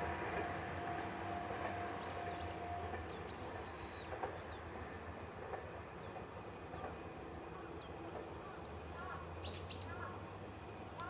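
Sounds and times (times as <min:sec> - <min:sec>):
distant train rumble: 0:00.0 - 0:11.0.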